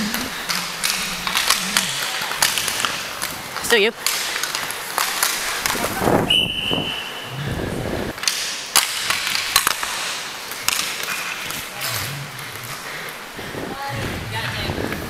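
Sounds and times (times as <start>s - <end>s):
hockey sticks and puck clacking: 0.0s - 7.3s, 8.1s - 13.2s
skate wheels rolling: 0.0s - 15.0s.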